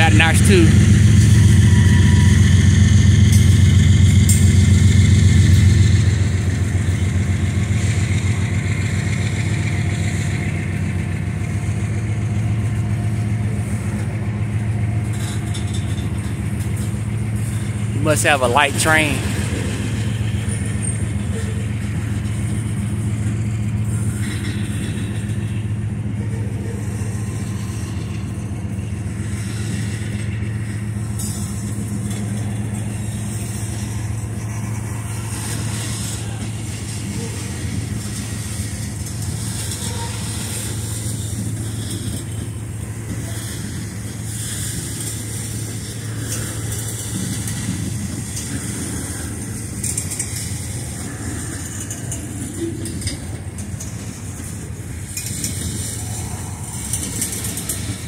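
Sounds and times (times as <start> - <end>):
diesel locomotive hum: 0.0 - 58.0
train wheels rumbling on rails: 0.0 - 58.0.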